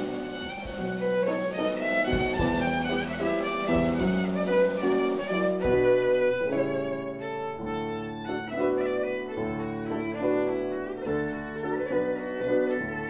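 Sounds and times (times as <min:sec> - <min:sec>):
instrumental music with bowed notes: 0:00.0 - 0:13.0.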